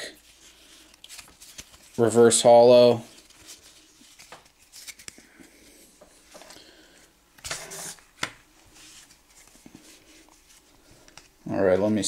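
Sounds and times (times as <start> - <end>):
trading cards rustling: 0.2 - 12.0.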